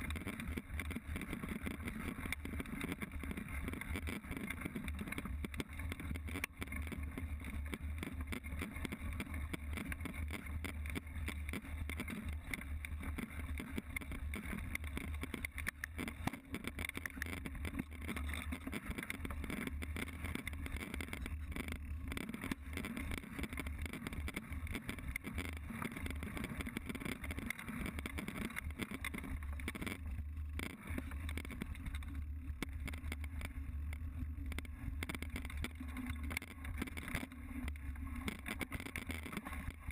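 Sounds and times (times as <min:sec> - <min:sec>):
bike knocking and rattling: 0:00.0 - 0:39.9
wind and tyre rumble: 0:00.0 - 0:39.9.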